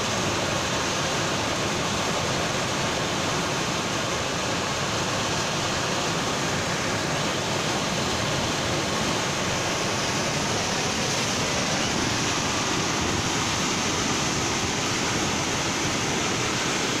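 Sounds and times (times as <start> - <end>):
floodwater rushing and churning: 0.0 - 17.0.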